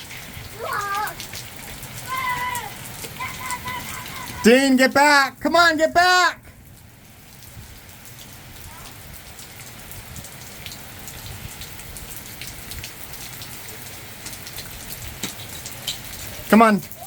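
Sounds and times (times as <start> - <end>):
heavy rain falling: 0.0 - 17.0
sharp raindrop hits: 0.0 - 17.0.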